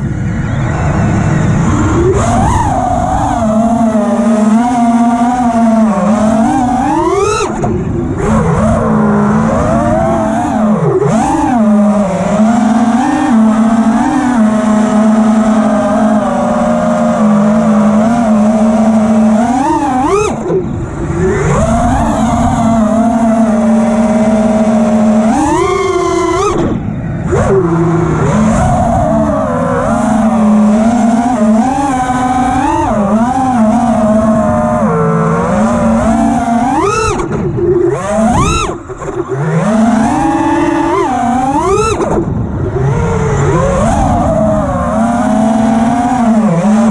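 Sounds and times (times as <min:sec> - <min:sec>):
quadcopter motors buzzing whine: 0:00.0 - 0:46.9.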